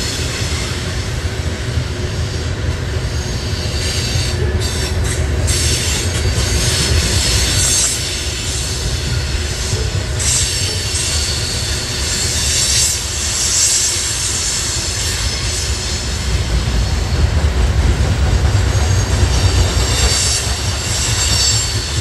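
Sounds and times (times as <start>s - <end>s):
train wheels rumbling on rail: 0.0s - 22.0s
high wheel squeal: 2.0s - 22.0s.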